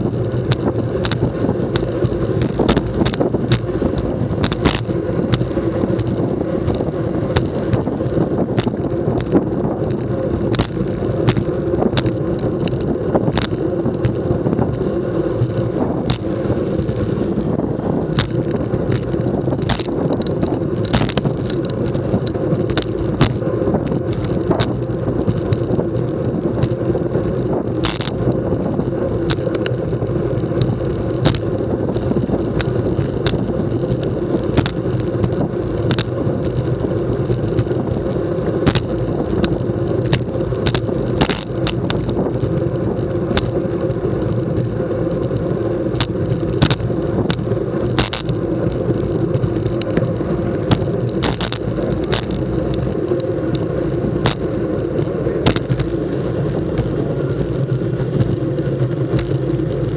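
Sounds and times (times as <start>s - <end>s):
sharp clicks and knocks: 0.0s - 17.2s, 18.1s - 59.9s
bike tyres rumbling on concrete: 0.0s - 59.9s
rushing air: 0.0s - 59.9s.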